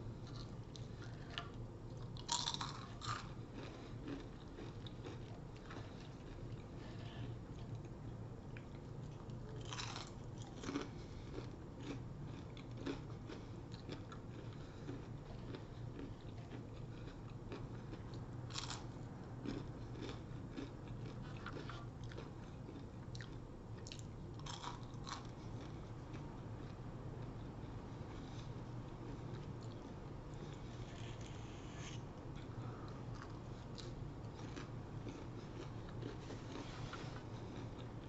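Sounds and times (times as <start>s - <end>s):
chewing crunchy food: 0.0s - 38.0s.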